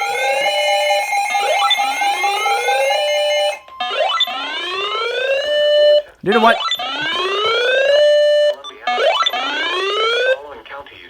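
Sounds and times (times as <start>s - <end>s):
rising whooping alarm sweep: 0.0s - 10.4s
short steady beeps: 1.3s - 10.4s.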